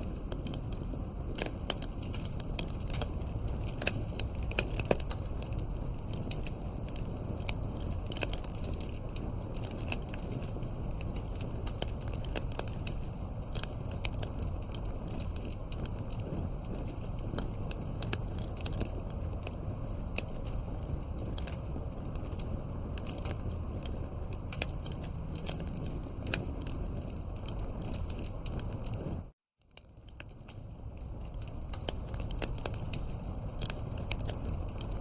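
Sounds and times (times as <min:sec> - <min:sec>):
campfire wood crackling and popping: 0:00.0 - 0:35.0
low rumble of flames: 0:00.0 - 0:35.0.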